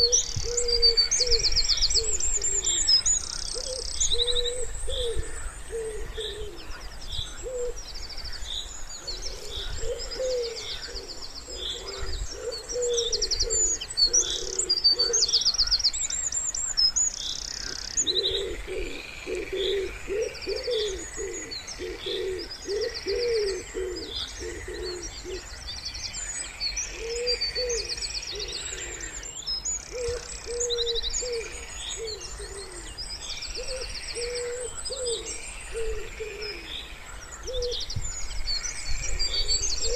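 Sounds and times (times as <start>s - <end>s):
wood pigeons cooing: 0.0s - 7.8s, 9.0s - 15.4s, 17.5s - 25.5s, 26.9s - 29.3s, 29.9s - 33.0s, 33.6s - 36.8s, 37.4s - 37.8s, 39.1s - 39.9s
songbirds chirping and trilling: 0.0s - 39.9s.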